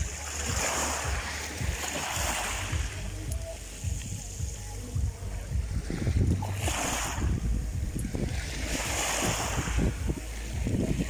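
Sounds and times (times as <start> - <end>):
sea waves washing in: 0.0 - 11.0
wind rumble on microphone: 0.0 - 11.0.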